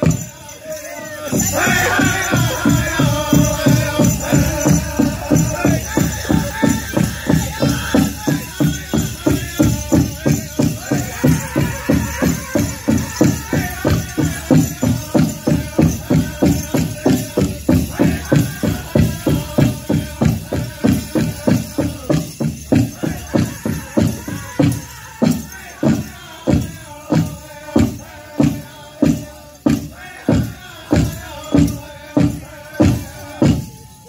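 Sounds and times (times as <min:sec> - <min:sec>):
group singing: 0:00.0 - 0:34.0
jingle of bells: 0:00.0 - 0:34.0
large drum beaten evenly: 0:00.0 - 0:34.0.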